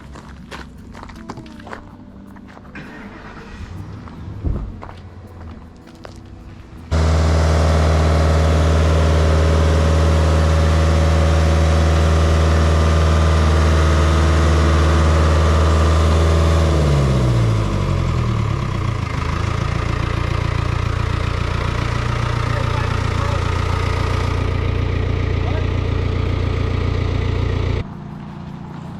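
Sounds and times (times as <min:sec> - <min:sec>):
engine running at high revs: 0:02.8 - 0:05.6, 0:06.9 - 0:28.9.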